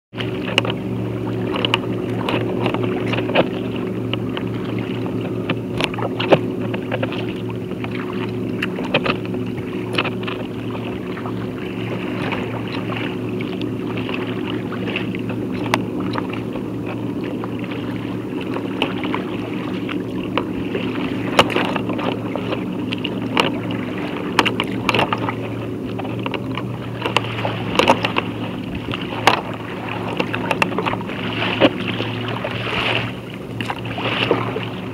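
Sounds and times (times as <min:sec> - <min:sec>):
water slapping against kayak hull: 0:00.1 - 0:34.9.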